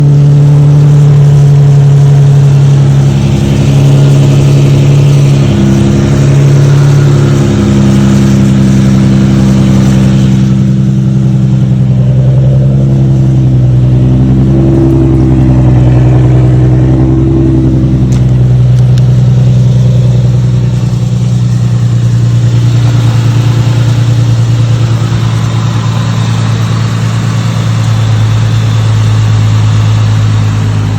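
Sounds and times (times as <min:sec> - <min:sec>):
car engine low hum: 0:00.0 - 0:30.9.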